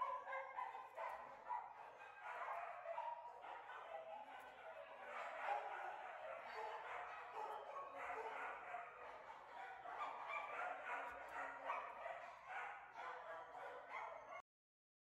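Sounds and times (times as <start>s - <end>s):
dog yipping and barking: 0.0s - 14.4s.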